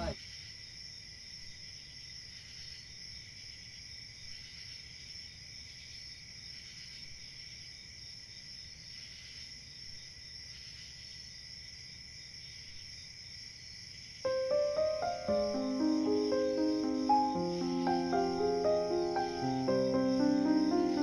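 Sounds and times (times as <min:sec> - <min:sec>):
crickets and insects chirping: 0:00.0 - 0:21.0.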